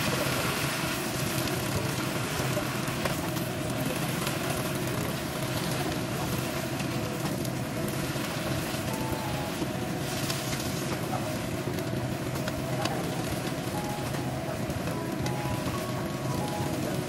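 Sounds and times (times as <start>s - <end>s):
spinach sizzling in frying pan: 0.0s - 17.0s.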